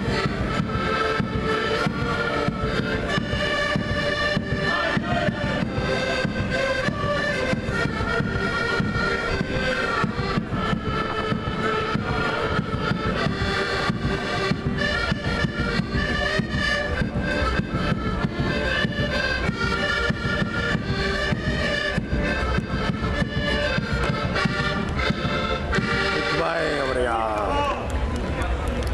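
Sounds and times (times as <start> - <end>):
accordions playing a tune: 0.0 - 27.4
steady rhythmic beat: 0.0 - 28.0.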